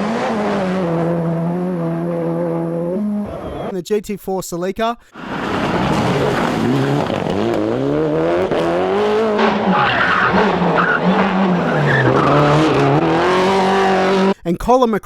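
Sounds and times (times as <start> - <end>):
rally car engine revving: 0.0 - 3.7, 5.2 - 14.4
tyres skidding: 0.0 - 3.8, 5.2 - 14.4.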